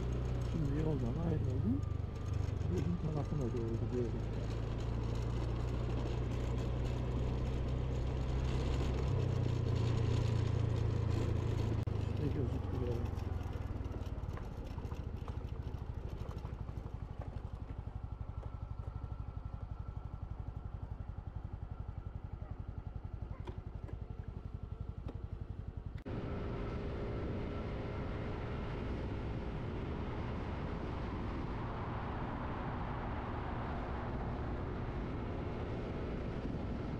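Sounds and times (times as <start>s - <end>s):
motorcycle engine running: 0.0s - 36.9s
road noise: 0.0s - 36.9s.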